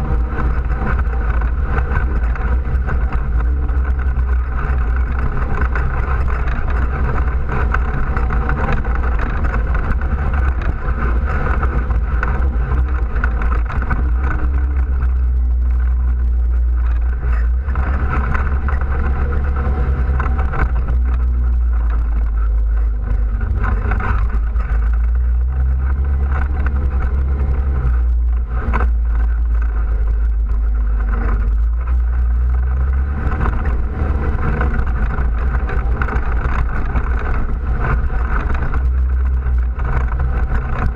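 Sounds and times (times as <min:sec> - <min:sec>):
off-road vehicle engine running: 0:00.0 - 0:40.9
wind noise: 0:00.0 - 0:40.9.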